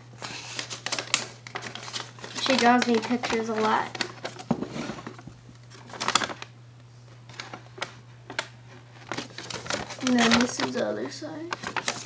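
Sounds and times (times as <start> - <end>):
paper crinkling and crackling: 0.2 - 6.5, 7.2 - 12.0.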